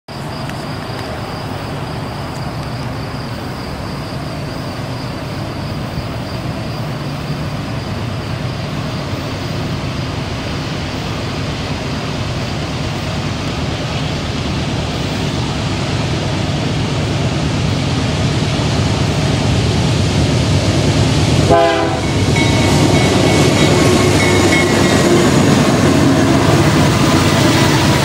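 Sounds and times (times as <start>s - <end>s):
distant diesel locomotives: 0.1s - 28.0s.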